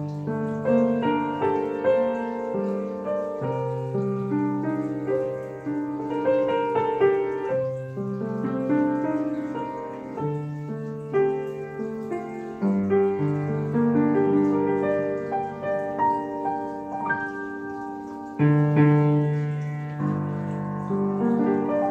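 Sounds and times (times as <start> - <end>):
upright piano melody: 0.0 - 21.9.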